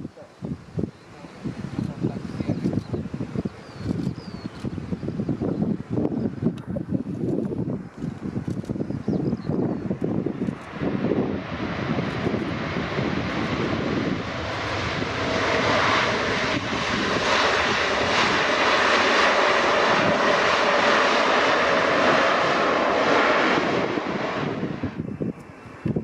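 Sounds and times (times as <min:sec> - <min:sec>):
jet airliner engine roar: 0:00.0 - 0:26.0.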